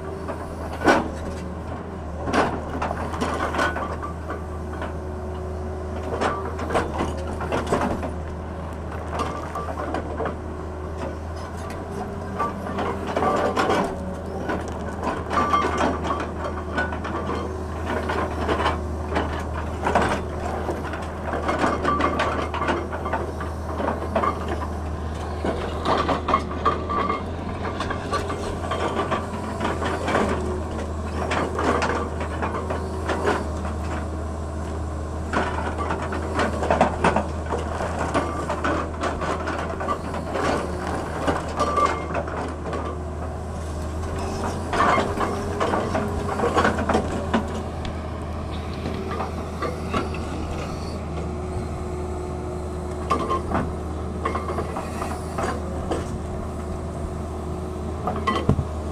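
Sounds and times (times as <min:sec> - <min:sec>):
diesel engine droning: 0:00.0 - 0:58.9.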